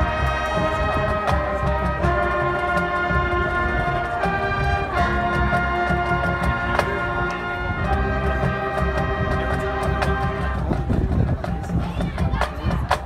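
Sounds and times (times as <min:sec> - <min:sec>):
brass chords: 0:00.0 - 0:11.0.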